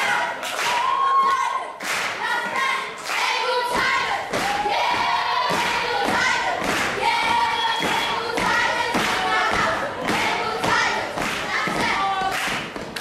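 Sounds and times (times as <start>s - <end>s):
children chanting: 0.0s - 13.0s
rhythmic stomping and clapping: 0.0s - 13.0s.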